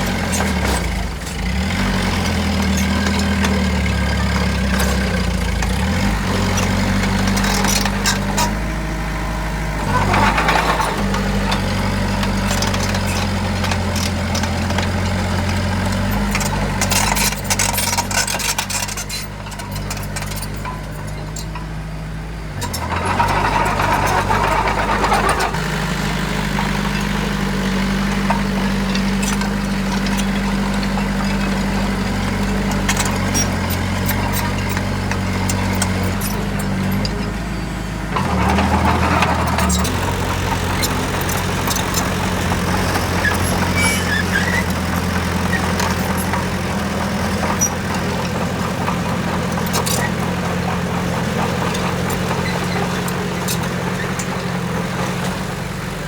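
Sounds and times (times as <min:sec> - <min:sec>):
clatter: 0:00.0 - 0:56.0
diesel engine of construction machine: 0:00.0 - 0:56.0.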